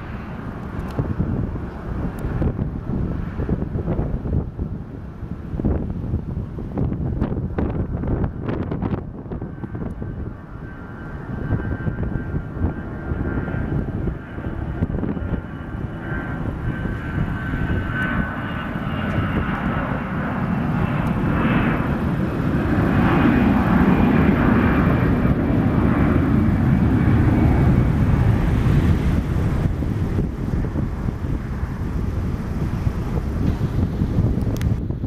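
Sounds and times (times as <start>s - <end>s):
jet engines roaring at takeoff: 0.0s - 35.0s.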